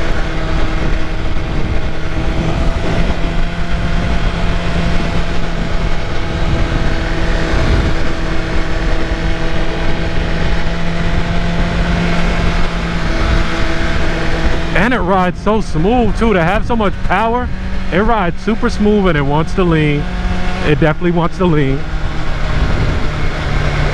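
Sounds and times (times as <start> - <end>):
motorcycle engine running: 0.0 - 23.9
wind and road noise: 0.0 - 23.9.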